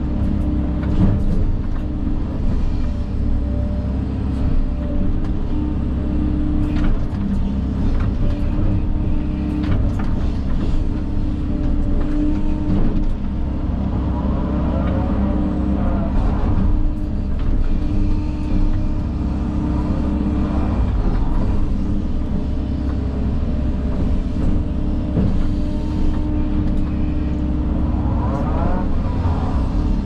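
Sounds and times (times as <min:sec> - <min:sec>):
diesel engine digging under load: 0:00.0 - 0:30.0.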